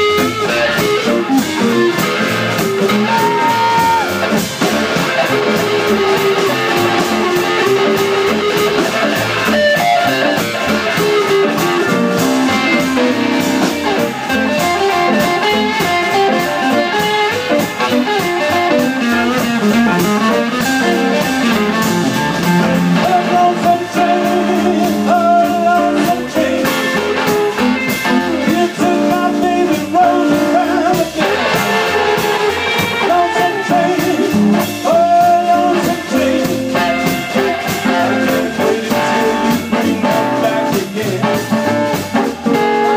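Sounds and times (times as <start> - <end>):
drum kit: 0.0 - 42.9
electric guitars: 0.0 - 42.9
live blues band playing: 0.0 - 42.9
upright bass: 0.0 - 42.9.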